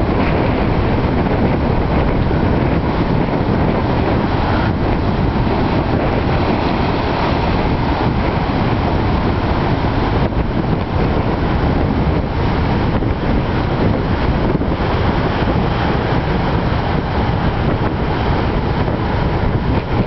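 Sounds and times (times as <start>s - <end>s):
heavy surf breaking on sea wall: 0.0s - 20.0s
strong wind buffeting microphone: 0.0s - 20.0s.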